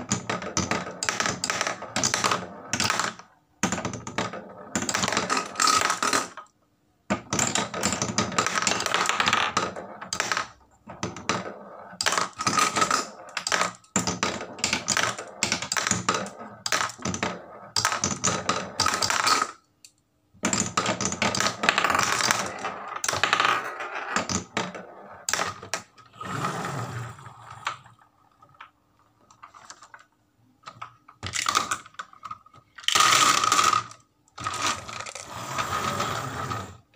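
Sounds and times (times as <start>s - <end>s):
marbles clattering on wood: 0.0s - 6.5s, 7.1s - 19.6s, 20.4s - 26.1s, 27.5s - 36.8s.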